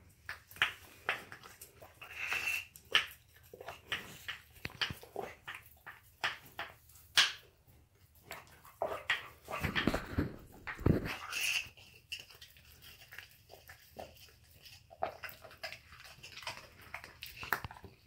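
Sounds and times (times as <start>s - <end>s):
dog licking and mouthing bone: 0.1s - 18.0s.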